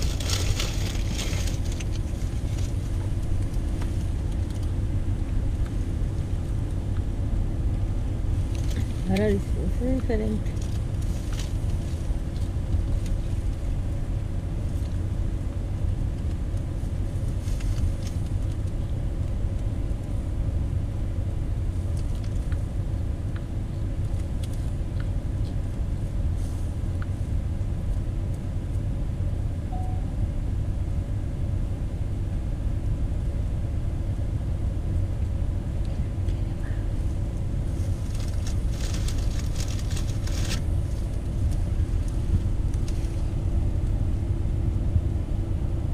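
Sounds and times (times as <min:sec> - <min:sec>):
car road rumble: 0:00.0 - 0:45.9
faint steady hum: 0:00.0 - 0:45.9.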